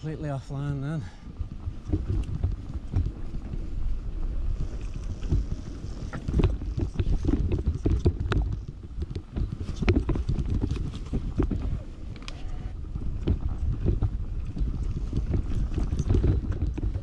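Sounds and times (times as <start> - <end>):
bike rattling over bumps: 0.0 - 17.0
tyres rumbling on dirt trail: 0.0 - 17.0
wind on microphone: 0.0 - 17.0.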